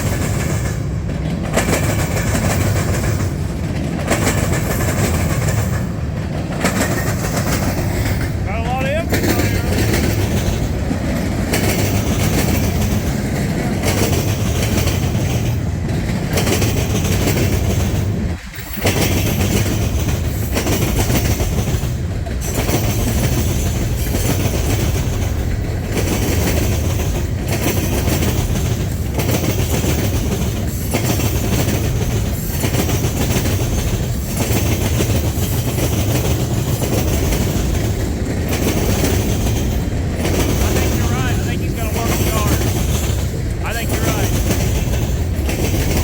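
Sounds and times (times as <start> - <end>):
wheels clicking over rail joints: 0.0 - 41.5, 42.1 - 43.6, 44.2 - 46.0
freight train rumbling: 0.0 - 46.0.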